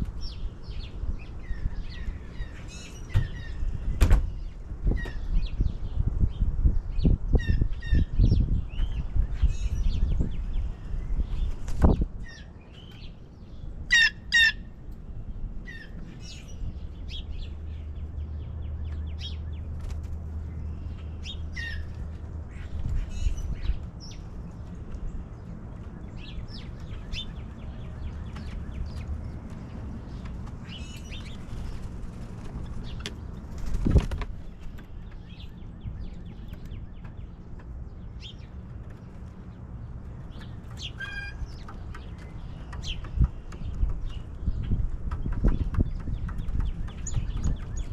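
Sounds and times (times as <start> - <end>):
wild birds chirping: 0.0 - 47.9.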